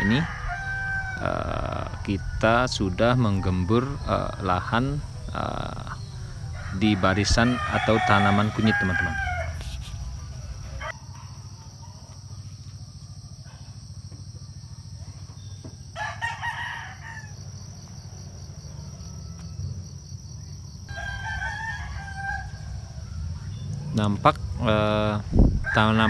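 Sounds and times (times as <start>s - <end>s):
rooster crowing: 0.0s - 26.0s.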